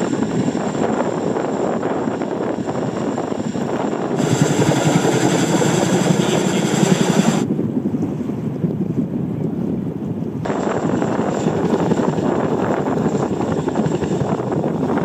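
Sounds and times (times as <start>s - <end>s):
helicopter engine whine: 0.0s - 7.5s, 10.4s - 15.0s
helicopter rotor rumble: 0.0s - 7.9s, 9.6s - 15.0s
wind on microphone: 0.0s - 15.0s.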